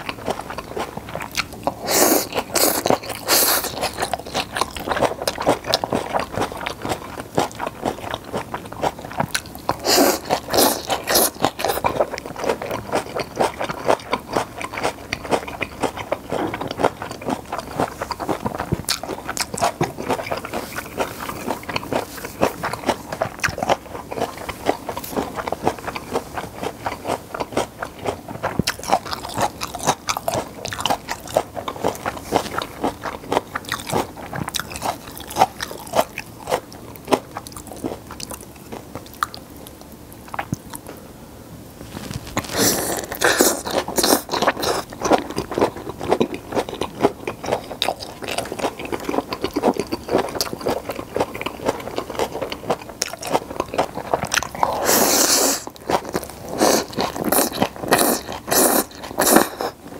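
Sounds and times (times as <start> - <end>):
wet chewing and biting: 0.0 - 40.9, 41.9 - 59.9.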